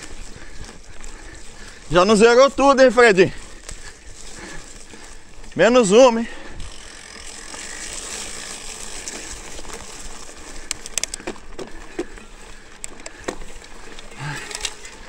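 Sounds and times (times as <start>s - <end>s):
bike tyres hissing on trail: 0.0s - 15.0s
leaves and twigs crackling: 0.0s - 15.0s.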